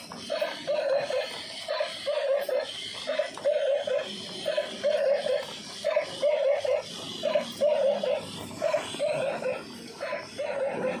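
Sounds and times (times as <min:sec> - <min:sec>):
toy dog electronic barks: 0:00.0 - 0:11.0.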